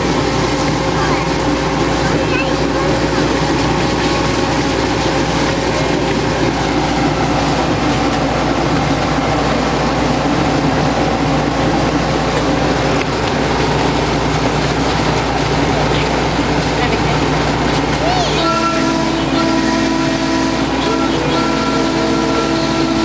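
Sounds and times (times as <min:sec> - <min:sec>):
miniature train rumbling on track: 0:00.0 - 0:23.0.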